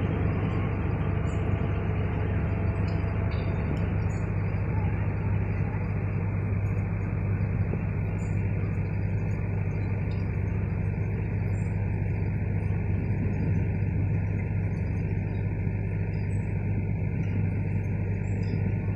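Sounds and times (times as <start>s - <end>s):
train diesel engine droning: 0.0s - 18.9s.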